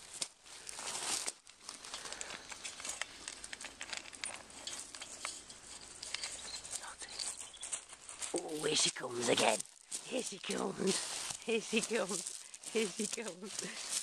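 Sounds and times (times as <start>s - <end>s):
puppy crunching kibble in metal bowl: 1.2s - 14.0s.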